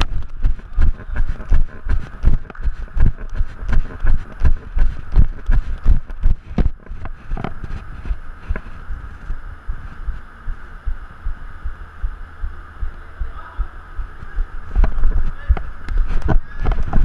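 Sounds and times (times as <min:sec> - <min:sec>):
background hiss: 0:00.0 - 0:16.6.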